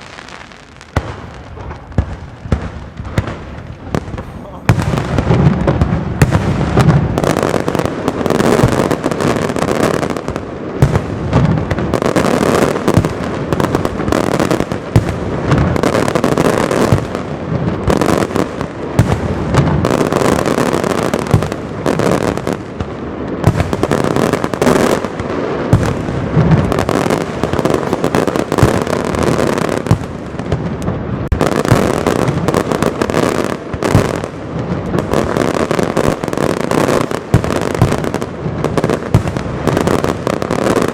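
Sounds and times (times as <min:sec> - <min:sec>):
fireworks bursts and crackle: 0:00.0 - 0:40.9
loud firework booms: 0:00.0 - 0:40.9.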